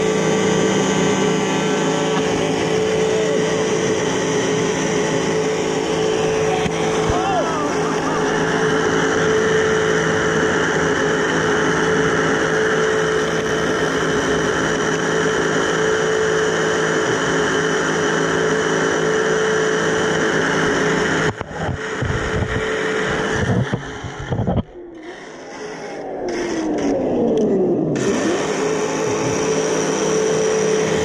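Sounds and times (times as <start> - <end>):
rc car high whine: 0.0 - 31.0.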